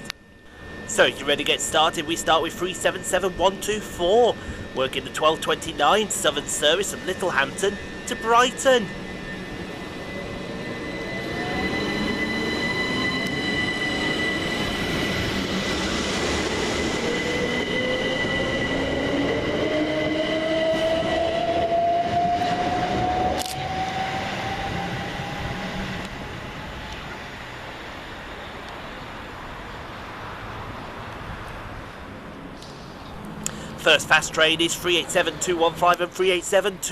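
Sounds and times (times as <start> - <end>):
electric train motors whining: 0.0 - 29.6, 32.0 - 36.9.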